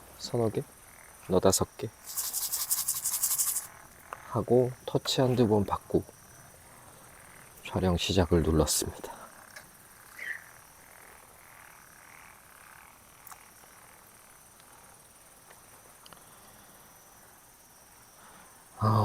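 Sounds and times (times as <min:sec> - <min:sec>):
frogs croaking: 0:00.0 - 0:19.0.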